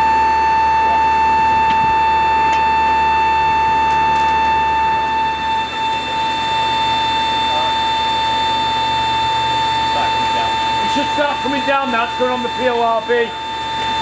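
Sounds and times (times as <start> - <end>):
high-pitched steady tone: 0.0 - 14.0.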